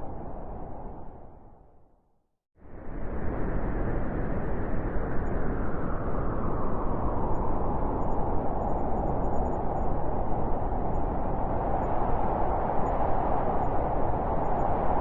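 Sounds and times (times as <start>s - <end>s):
howling wind: 0.0s - 2.0s, 2.6s - 15.0s.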